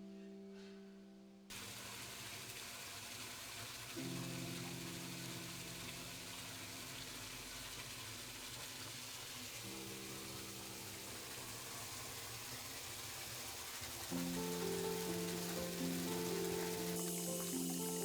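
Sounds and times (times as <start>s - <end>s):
waterfall splashing: 1.5s - 18.0s.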